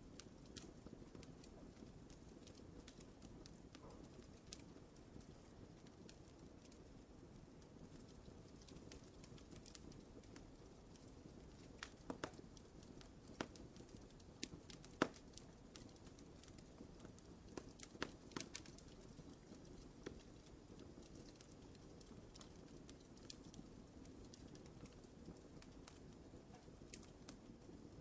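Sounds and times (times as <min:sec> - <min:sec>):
low rumble of burning: 0:00.0 - 0:28.0
fire pops and snaps: 0:00.1 - 0:28.0.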